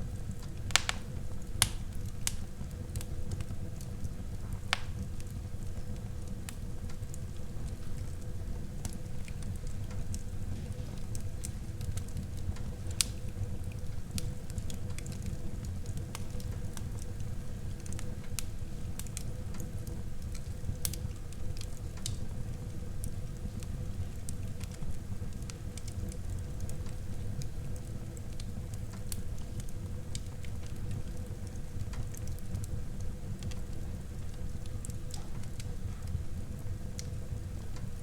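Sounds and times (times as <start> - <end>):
fire crackling and popping: 0.0 - 38.0
fire flames rumbling: 0.0 - 38.0.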